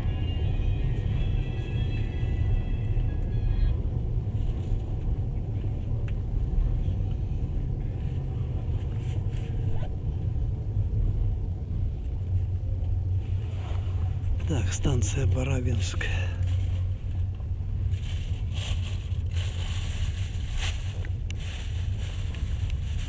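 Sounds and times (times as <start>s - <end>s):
high whine: 0.0s - 23.0s
train carriage rumbling: 0.0s - 23.0s.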